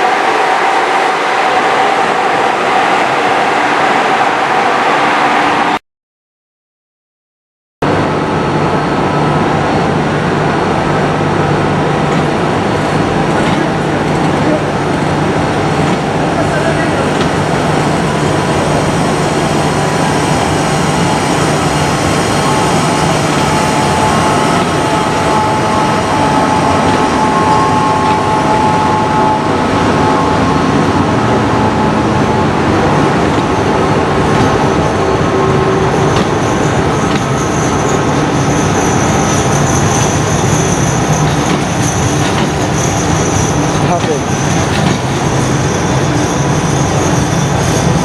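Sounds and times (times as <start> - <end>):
high whine: 7.8 - 48.0
train wheels rumbling on rail: 7.9 - 48.0.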